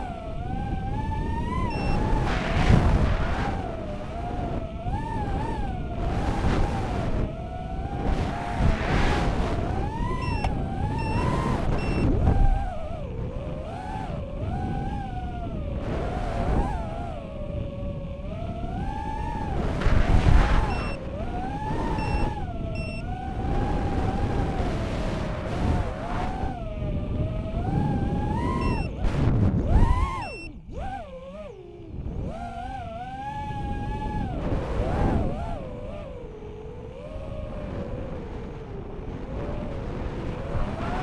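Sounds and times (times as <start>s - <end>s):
drone motors whining: 0.0s - 41.0s
wind rush on microphone: 0.0s - 41.0s.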